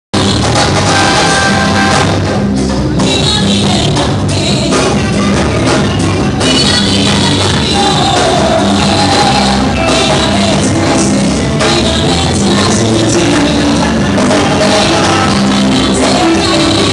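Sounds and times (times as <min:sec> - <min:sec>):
drums: 0:00.1 - 0:16.9
repeating bass line: 0:00.1 - 0:16.9
gospel music with singing: 0:00.2 - 0:16.9.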